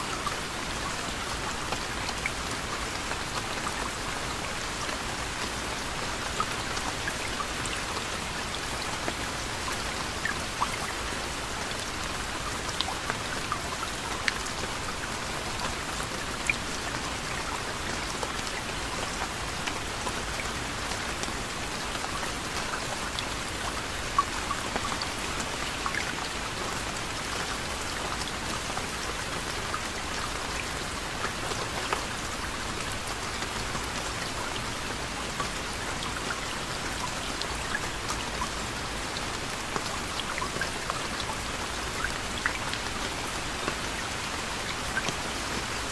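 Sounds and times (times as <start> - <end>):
raindrops pattering on a surface: 0.0 - 45.9
soft rain falling: 0.0 - 45.9.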